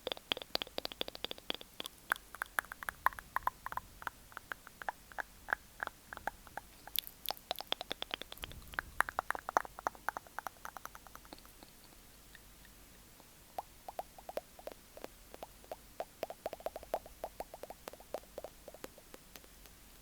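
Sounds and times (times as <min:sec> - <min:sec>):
wet mouth clicks and smacks: 0:00.0 - 0:19.8.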